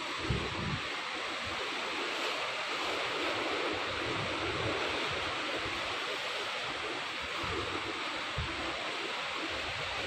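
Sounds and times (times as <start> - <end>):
wind gusting on microphone: 0.0 - 2.1, 2.8 - 10.0
surf washing against rocks: 0.0 - 10.0.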